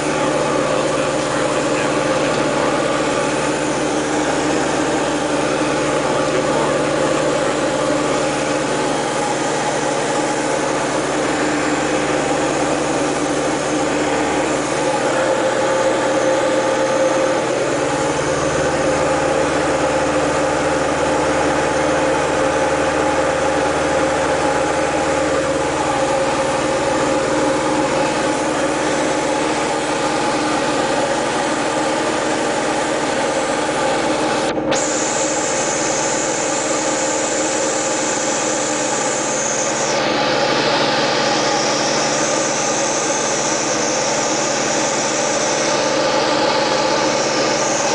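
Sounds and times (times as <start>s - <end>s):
airplane engine drone in cockpit: 0.0s - 47.9s.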